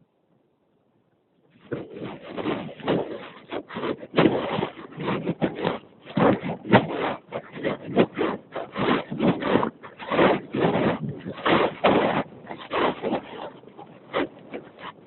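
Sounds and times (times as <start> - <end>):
footsteps crunching through snow: 1.5 - 15.0.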